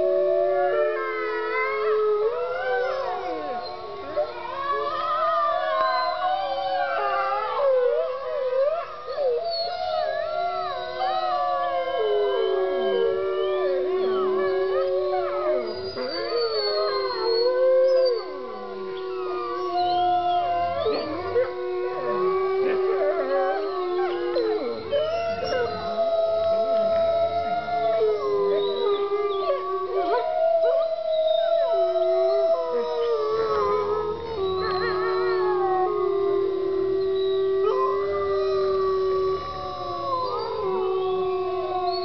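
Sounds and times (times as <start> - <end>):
wolves howling: 0.0 - 42.0.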